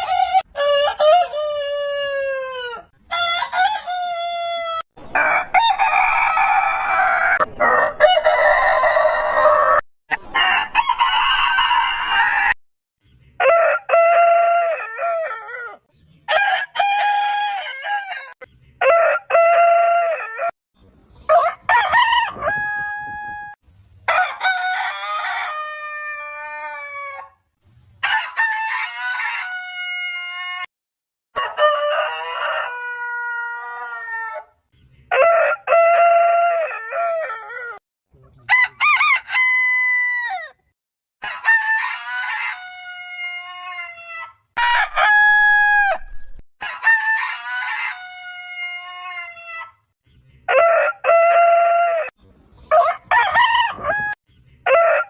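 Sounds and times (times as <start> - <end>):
roosters crowing: 0.0 - 12.6, 13.4 - 20.5, 21.2 - 30.7, 31.4 - 37.8, 38.5 - 49.9, 50.5 - 55.0.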